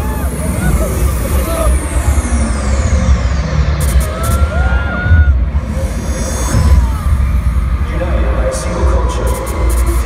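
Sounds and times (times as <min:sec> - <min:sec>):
loud concert music: 0:00.0 - 0:10.0.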